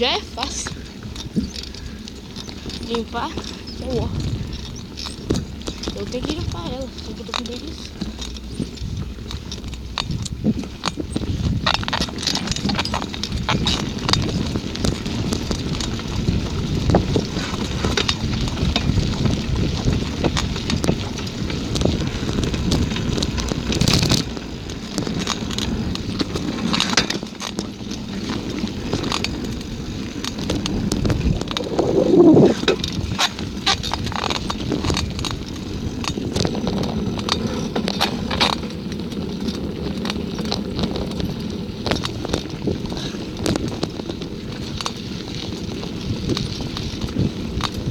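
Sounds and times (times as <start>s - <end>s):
bicycle clicks and rattles: 0.0s - 47.9s
bicycle tyres rumbling on rough ground: 0.0s - 47.9s.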